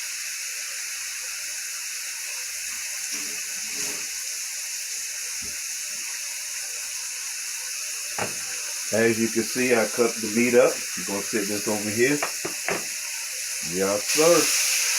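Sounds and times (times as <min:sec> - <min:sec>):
bacon sizzling in a wok: 0:00.0 - 0:14.9.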